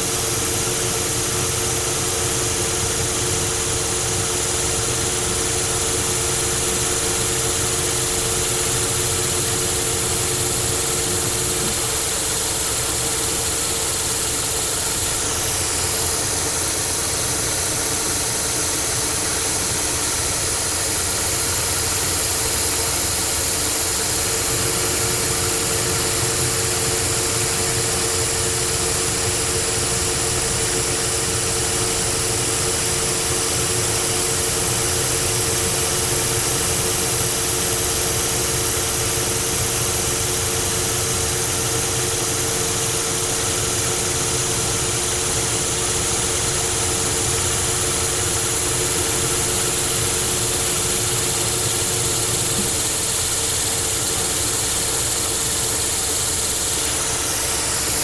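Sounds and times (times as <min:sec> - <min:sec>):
high machine whine: 0:00.0 - 0:58.0
lathe running: 0:00.0 - 0:58.0.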